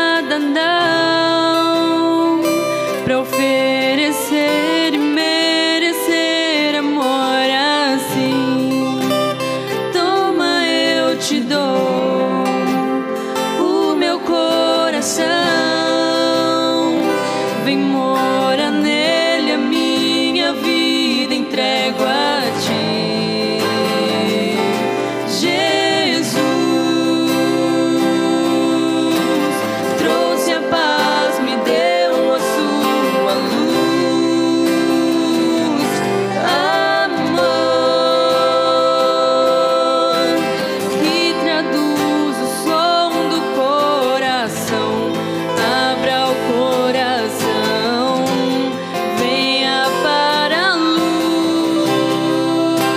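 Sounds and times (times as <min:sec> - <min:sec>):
guitar accompaniment: 0:00.0 - 0:52.9
person singing: 0:00.0 - 0:52.9.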